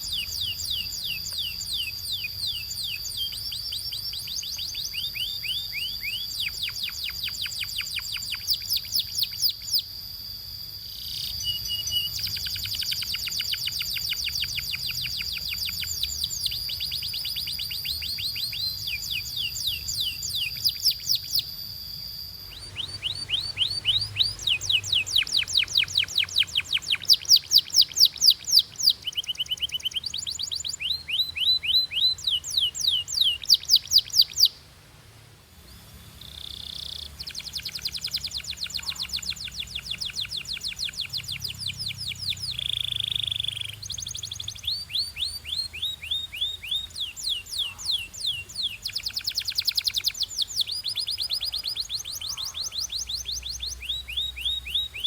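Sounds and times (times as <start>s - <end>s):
canary singing trills: 0.0s - 34.7s, 35.6s - 55.0s.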